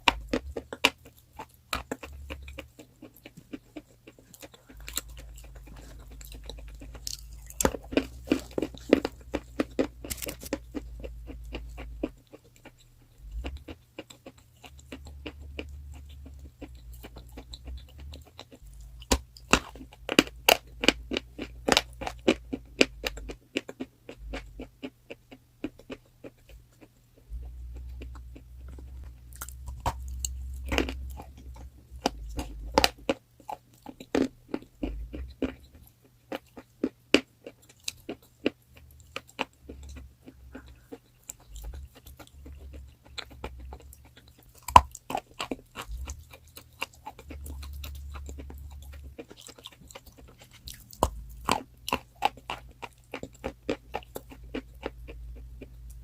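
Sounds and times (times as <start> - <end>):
chalk being chewed: 0.0 - 56.0.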